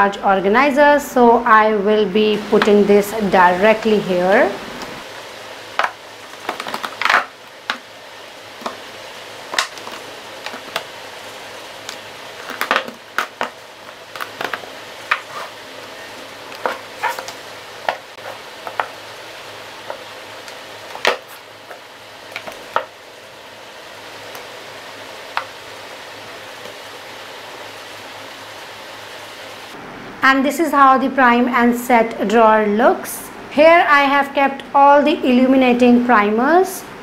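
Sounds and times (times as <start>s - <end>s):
steady hiss: 0.6s - 33.6s.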